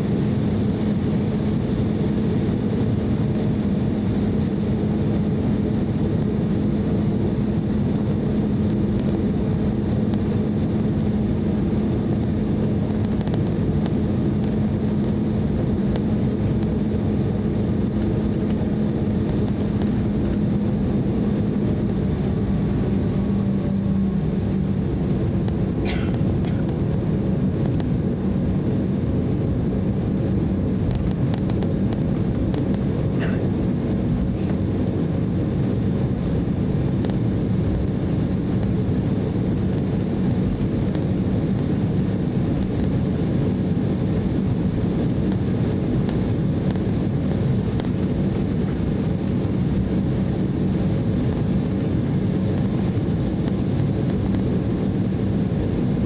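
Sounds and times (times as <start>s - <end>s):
jet engines humming: 0.0s - 56.0s.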